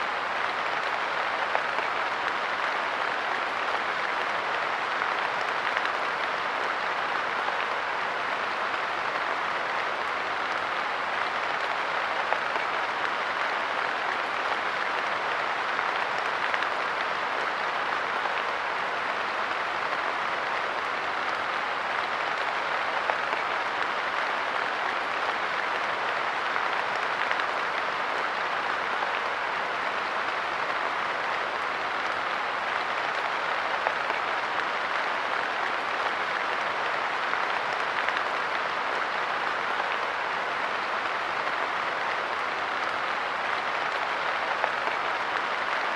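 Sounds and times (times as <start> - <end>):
light rain on a bench: 0.0 - 45.9.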